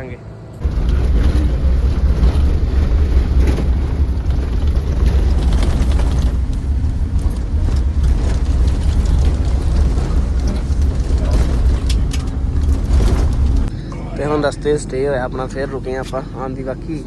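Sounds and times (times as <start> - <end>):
bus rumbling on road: 0.0 - 17.0.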